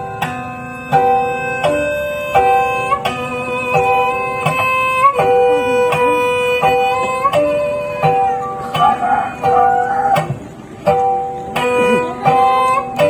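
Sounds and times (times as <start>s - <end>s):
bowed fiddle steady tone: 0.0s - 13.0s
plucked string instrument: 0.0s - 13.0s.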